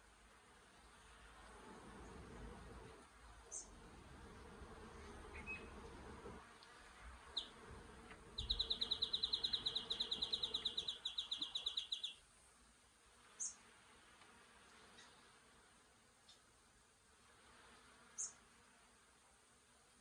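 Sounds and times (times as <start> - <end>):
bees buzzing faintly: 0.0 - 20.0.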